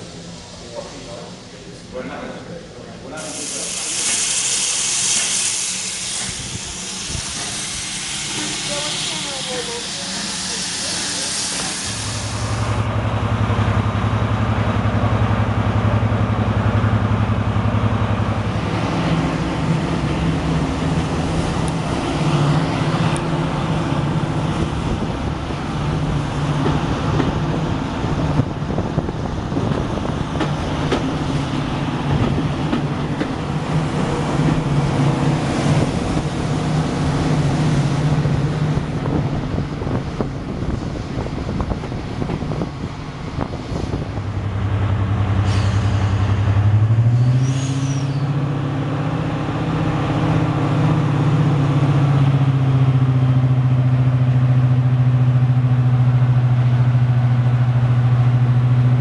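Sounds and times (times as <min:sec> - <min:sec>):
diesel locomotive engines working: 0:00.0 - 0:59.0.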